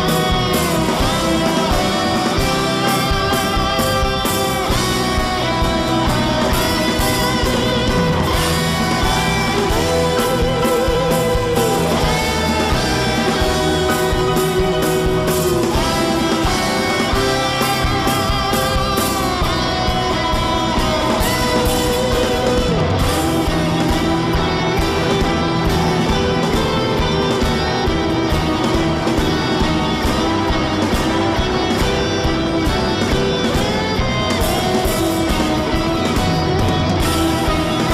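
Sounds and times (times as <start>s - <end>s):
guitar rock music: 0.0s - 37.9s.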